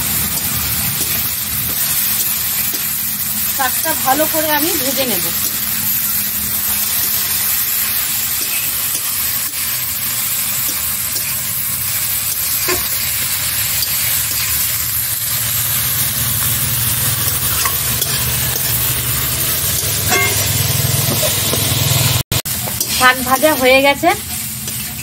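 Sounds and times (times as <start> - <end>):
greens sizzling in a wok: 0.0 - 25.0
metal spatula scraping a wok: 0.0 - 25.0.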